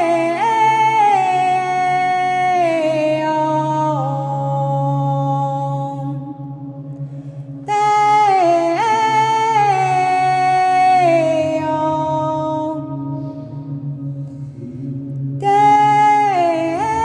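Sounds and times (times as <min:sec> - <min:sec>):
low drone backing track: 0:00.0 - 0:17.0
wordless chant-like singing: 0:00.0 - 0:17.0.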